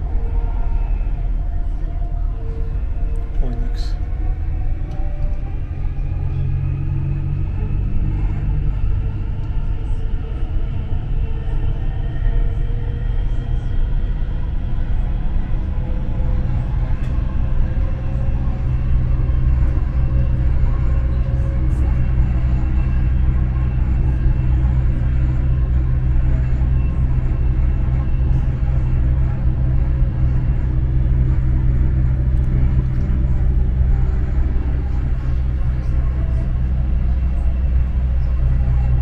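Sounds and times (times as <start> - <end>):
train cabin low rumble: 0.0 - 39.0.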